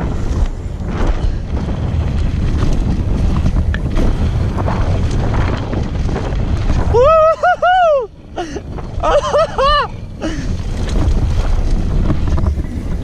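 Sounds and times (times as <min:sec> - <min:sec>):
bike tyre rumble on gravel: 0:00.0 - 0:13.0
wind buffeting microphone: 0:00.0 - 0:13.0.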